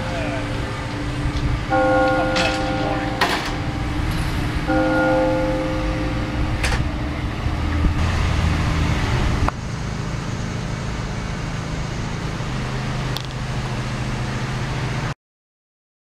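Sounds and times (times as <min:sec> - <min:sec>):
vehicle engine rumbling: 0:00.0 - 0:15.2.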